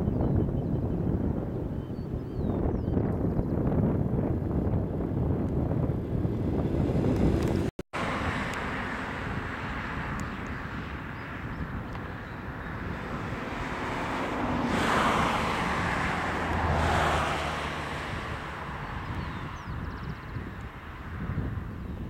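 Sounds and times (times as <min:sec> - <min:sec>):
distant jet engines roaring: 0:00.0 - 0:22.0
wind buffeting microphone: 0:00.0 - 0:22.0.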